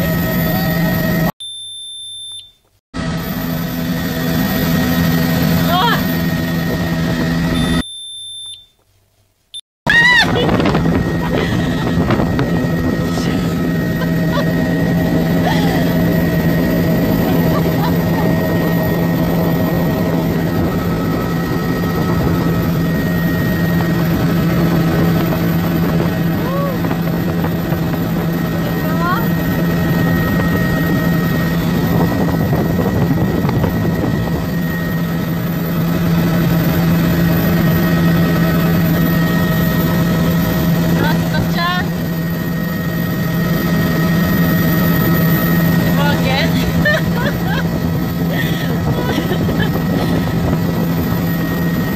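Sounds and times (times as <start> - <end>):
helicopter engine and rotor drone: 0.0 - 1.3, 3.0 - 7.9, 9.9 - 51.9.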